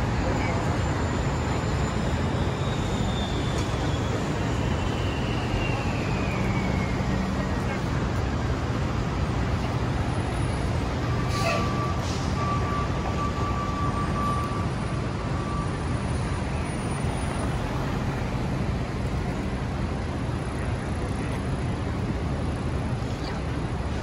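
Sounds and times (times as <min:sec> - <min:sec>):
traffic engines rumbling: 0:00.0 - 0:24.0.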